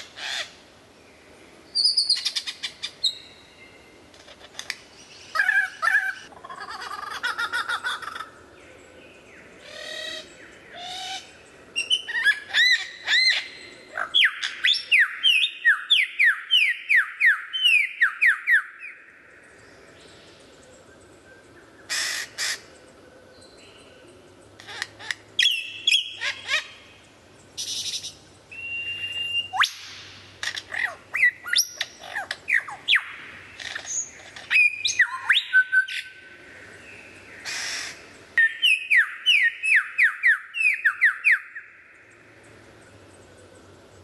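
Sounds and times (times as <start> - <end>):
lyrebird singing: 1.7 - 3.8, 4.4 - 43.7.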